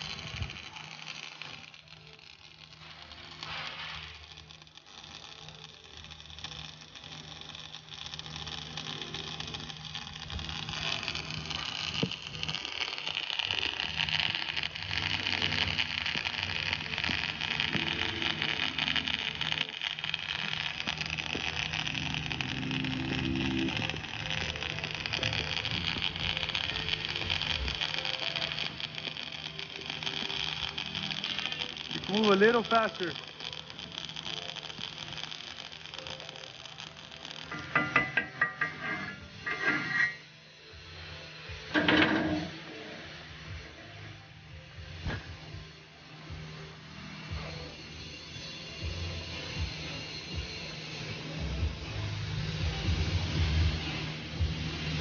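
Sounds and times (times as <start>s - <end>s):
welding arc crackling: 0.0s - 55.0s.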